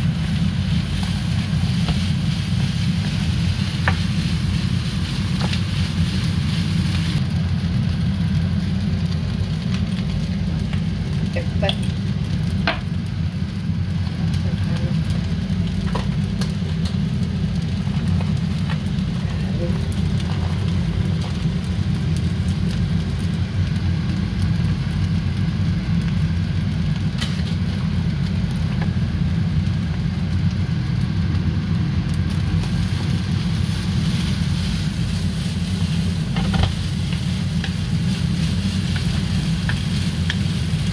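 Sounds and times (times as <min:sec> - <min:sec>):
rice sizzling in a wok: 0:00.0 - 0:40.9
steady low hum: 0:00.0 - 0:40.9.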